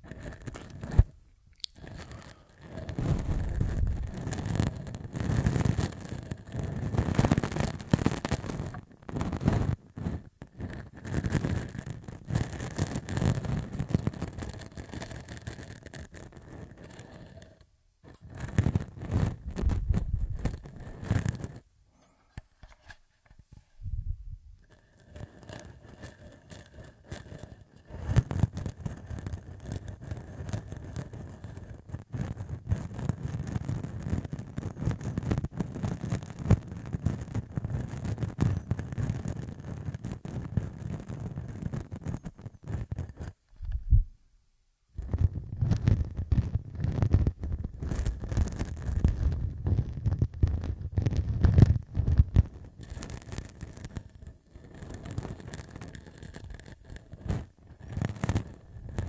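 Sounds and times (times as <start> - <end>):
stubble scratching on microphone: 0.0 - 44.2, 45.0 - 59.0.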